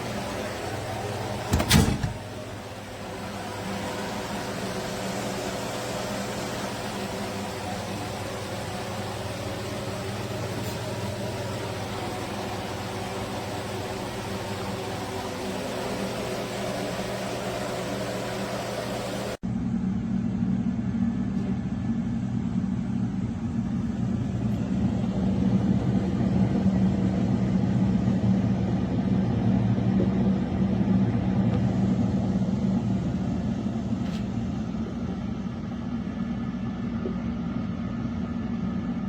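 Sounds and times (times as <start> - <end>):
air fryer fan humming: 0.0 - 39.0.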